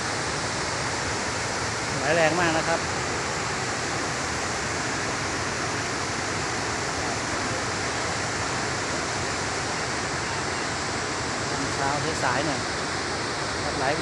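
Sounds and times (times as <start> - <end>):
waterfall pouring heavily: 0.0 - 14.0.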